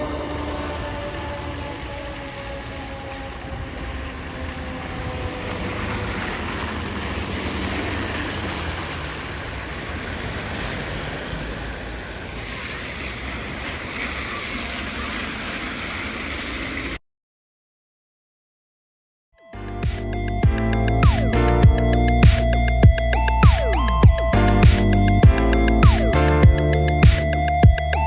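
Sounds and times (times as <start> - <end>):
vehicle engine rumble: 0.0 - 17.0, 19.7 - 28.0.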